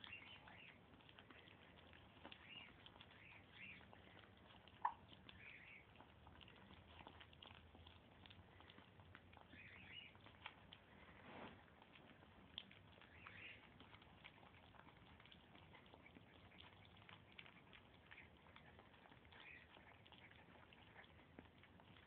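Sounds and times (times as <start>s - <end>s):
puppies eating: 0.0s - 22.0s
puppies whimpering: 0.0s - 22.0s.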